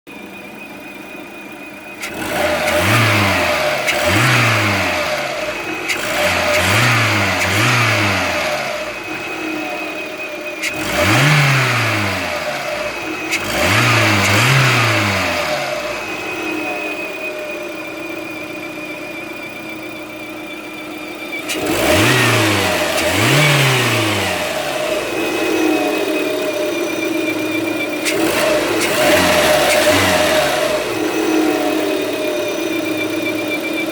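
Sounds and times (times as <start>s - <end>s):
high-pitched engine whistle: 0.1s - 33.9s
car engine revving: 0.2s - 33.9s.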